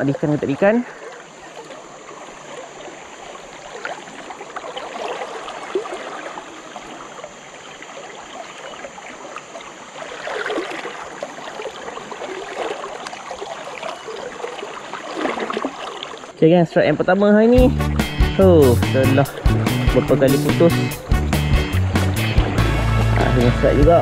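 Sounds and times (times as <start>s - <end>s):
river rushing and gurgling: 0.0s - 24.0s.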